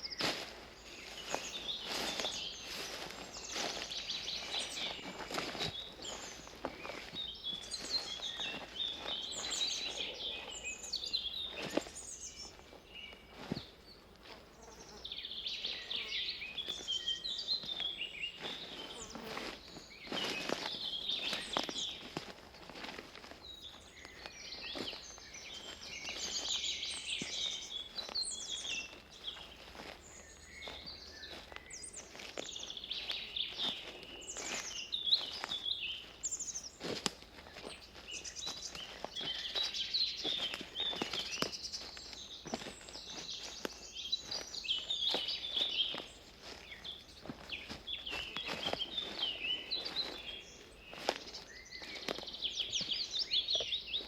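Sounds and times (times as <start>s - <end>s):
footsteps crunching on forest path: 0.0s - 54.0s
forest birds singing: 0.0s - 54.0s.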